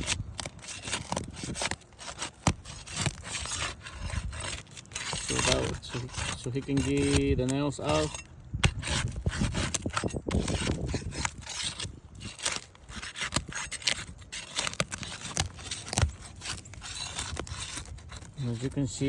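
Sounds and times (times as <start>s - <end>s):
tool scraping under roof shingles: 0.0s - 19.0s.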